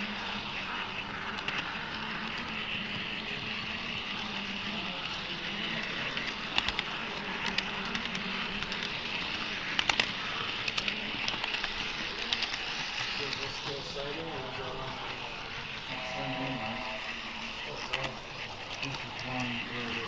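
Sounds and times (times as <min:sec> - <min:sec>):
sharp track clicks: 0:00.0 - 0:13.8, 0:17.3 - 0:20.0
model train motor hum: 0:00.0 - 0:20.0.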